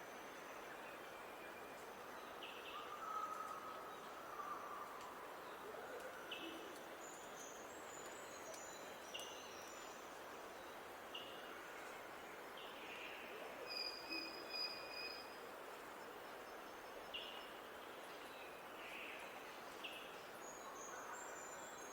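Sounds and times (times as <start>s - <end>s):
steady outdoor hiss: 0.0s - 21.9s.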